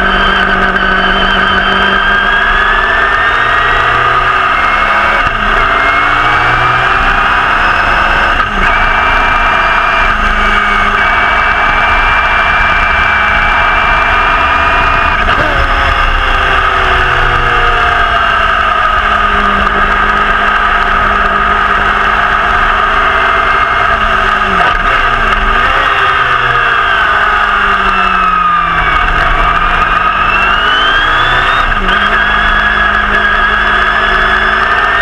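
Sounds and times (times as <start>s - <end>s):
racing car engine at full throttle: 0.0s - 35.0s.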